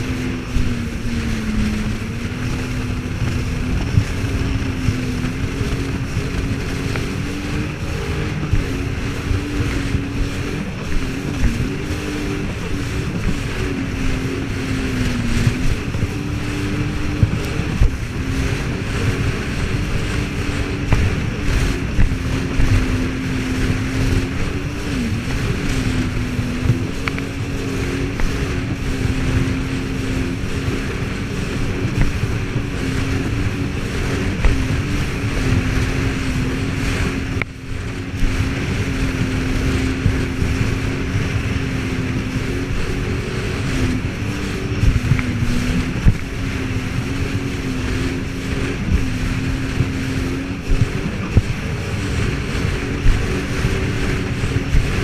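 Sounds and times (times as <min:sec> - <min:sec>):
jet ski engine running: 0:00.0 - 0:55.0
water rushing: 0:00.0 - 0:55.0
wind buffeting microphone: 0:00.0 - 0:55.0.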